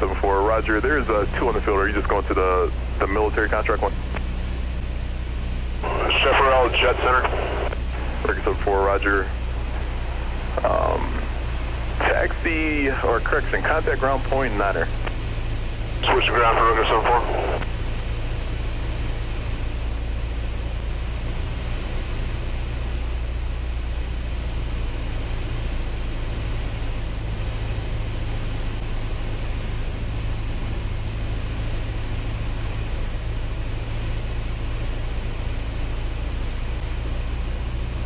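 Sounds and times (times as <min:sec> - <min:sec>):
light aircraft engine and propeller: 0:00.0 - 0:38.0.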